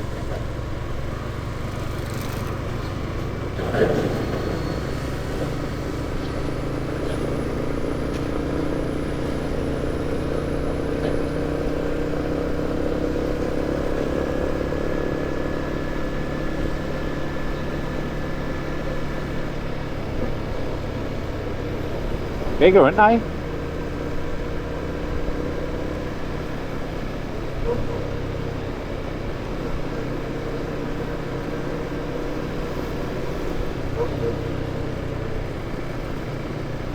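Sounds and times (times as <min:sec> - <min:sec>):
motorcycle engine running: 0:00.0 - 0:36.9
road and wind noise: 0:00.0 - 0:36.9.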